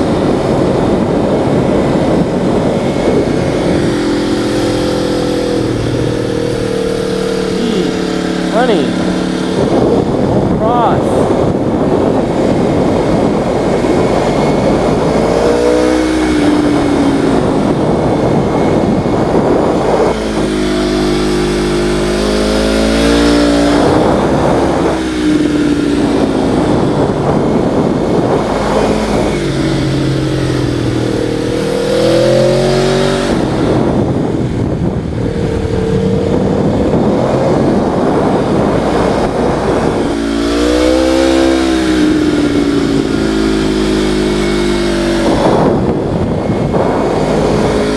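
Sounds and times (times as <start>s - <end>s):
vehicle engines revving: 0.0s - 47.9s.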